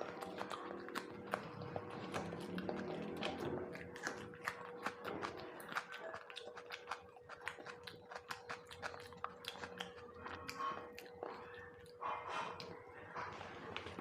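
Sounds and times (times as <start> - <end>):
person chewing with wet mouth clicks: 0.0 - 12.8.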